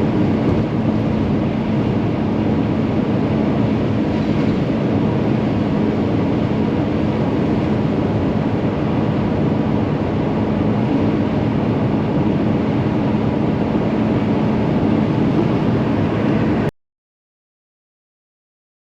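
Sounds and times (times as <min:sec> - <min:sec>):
van engine and road noise: 0:00.0 - 0:16.7.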